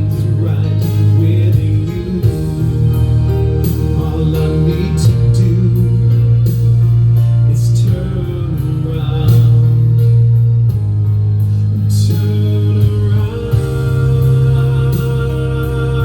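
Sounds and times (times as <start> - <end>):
sustained bass notes: 0.0 - 16.0.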